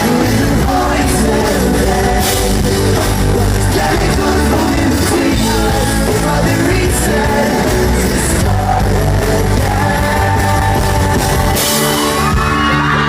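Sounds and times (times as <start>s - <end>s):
person singing lead vocal: 0.0s - 13.0s
rock band playing live: 0.0s - 13.0s.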